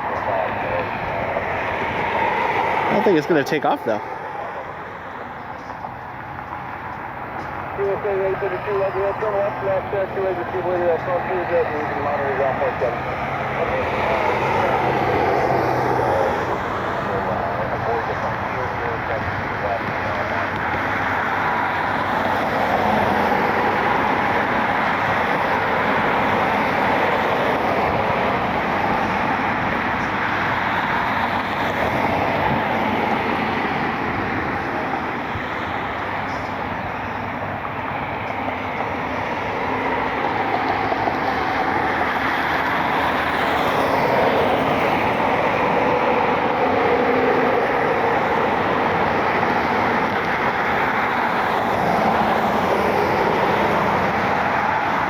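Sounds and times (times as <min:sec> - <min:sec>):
jet engines rumble and whine: 0:00.0 - 0:55.0.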